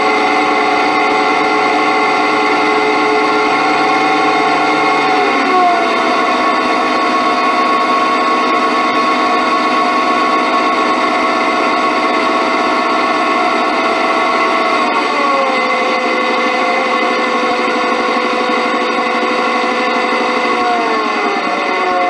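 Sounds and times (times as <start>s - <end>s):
machine whine with ringing tones: 0.0s - 22.0s.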